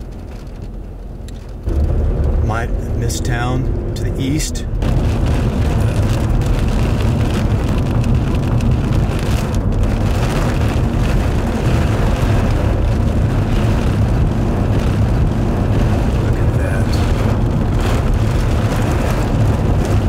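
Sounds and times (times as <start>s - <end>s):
rain on car windshield: 0.0s - 20.0s
road and wind noise: 0.0s - 20.0s.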